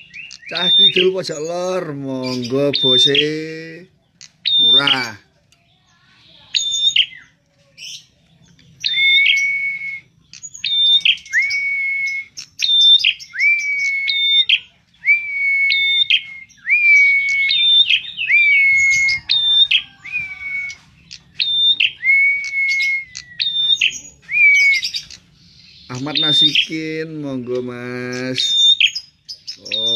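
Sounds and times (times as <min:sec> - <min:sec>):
bird singing shrill song: 0:00.0 - 0:29.9.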